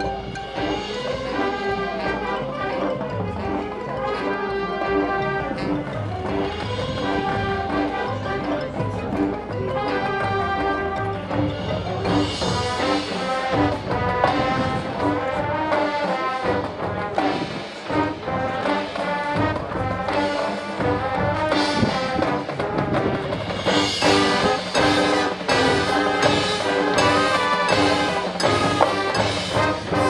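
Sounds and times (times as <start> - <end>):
marching band with brass: 0.0 - 30.0.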